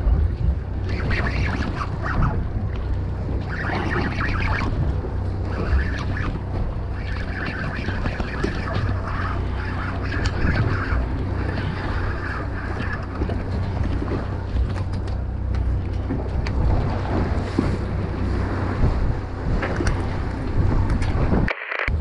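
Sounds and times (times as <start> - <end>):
water splashing against boat hull: 0.0 - 21.5
steady low hum: 0.0 - 22.0
wind buffeting microphone: 0.0 - 22.0.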